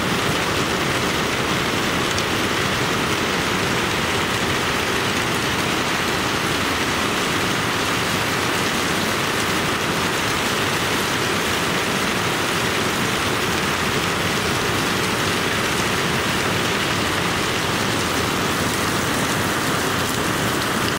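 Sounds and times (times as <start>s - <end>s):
heavy rain falling: 0.0s - 20.9s
water streaming off roof: 0.0s - 20.9s.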